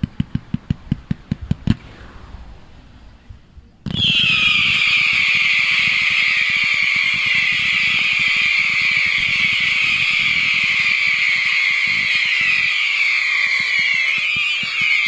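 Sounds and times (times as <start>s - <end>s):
fireworks low pops: 0.0s - 15.0s
fireworks whistling and crackling: 0.0s - 15.0s.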